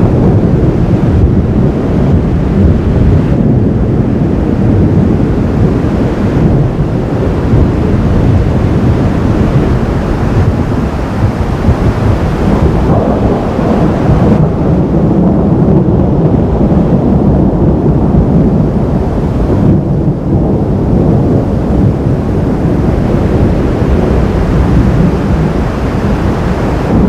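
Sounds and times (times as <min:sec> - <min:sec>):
thunder rumbling: 0:00.0 - 0:27.0.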